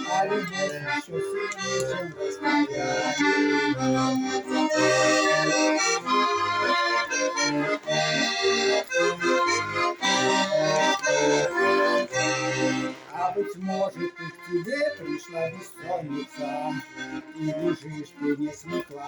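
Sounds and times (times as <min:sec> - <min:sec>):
accordion playing: 0:00.0 - 0:19.0.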